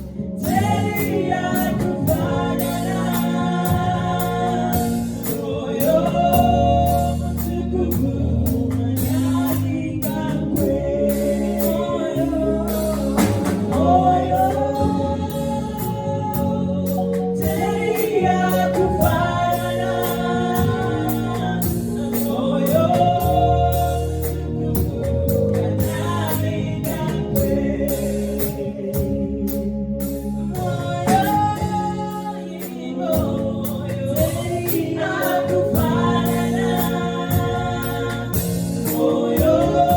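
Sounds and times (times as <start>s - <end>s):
band with bass and drums: 0.0s - 39.9s
voices singing gospel song: 0.0s - 39.9s.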